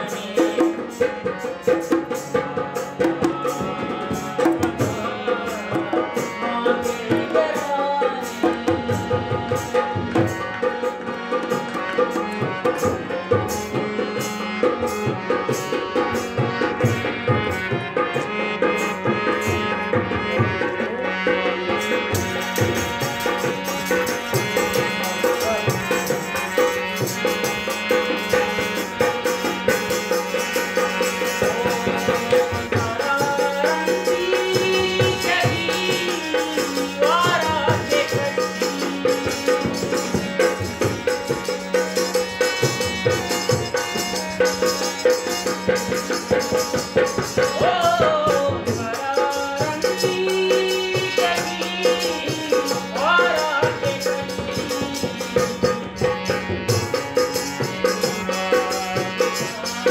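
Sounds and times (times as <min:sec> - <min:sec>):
hand drum rhythm: 0:00.0 - 0:59.9
harmonium folk melody: 0:00.0 - 0:59.9.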